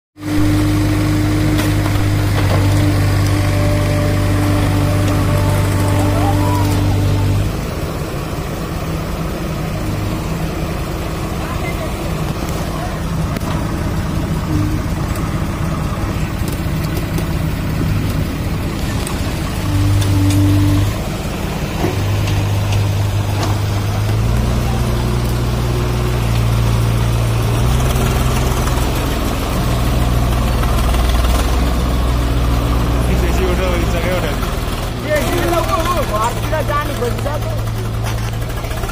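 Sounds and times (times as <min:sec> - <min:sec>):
diesel engine running: 0:00.2 - 0:38.9.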